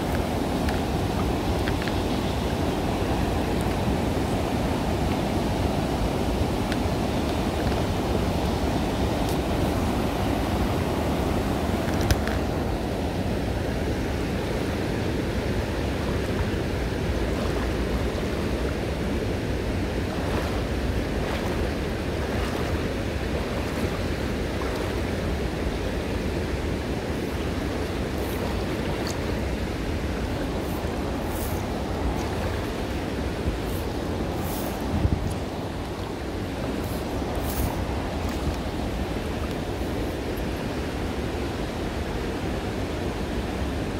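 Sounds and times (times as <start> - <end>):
river flowing over stones: 0.0 - 43.9.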